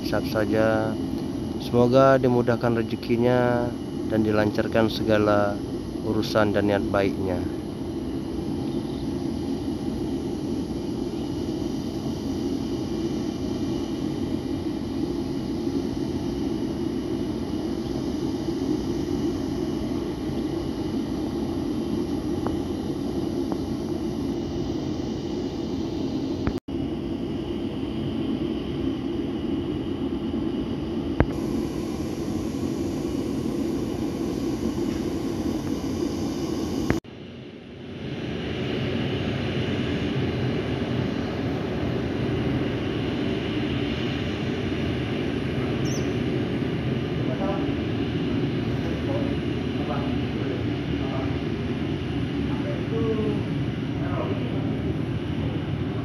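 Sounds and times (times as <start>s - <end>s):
jet aircraft whine and rumble: 0.0s - 56.0s.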